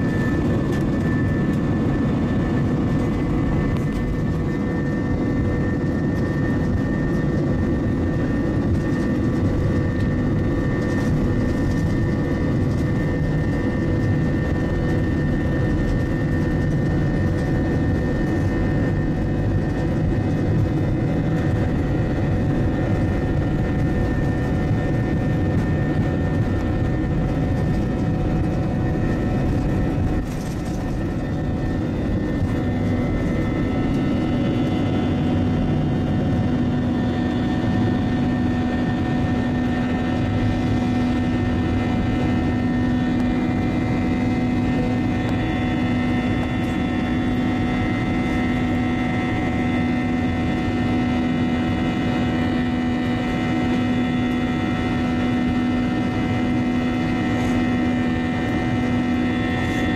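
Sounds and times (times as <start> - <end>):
jet engines droning in cabin: 0.0 - 59.9
steady low hum: 0.0 - 59.9.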